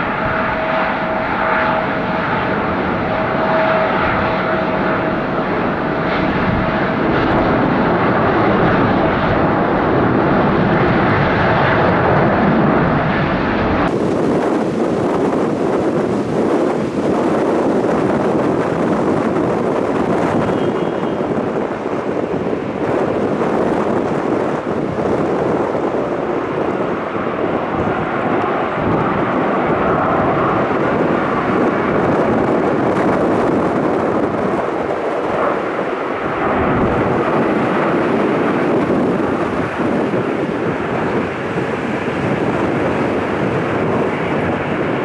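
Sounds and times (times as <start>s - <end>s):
jet engine roar: 0.0s - 45.0s.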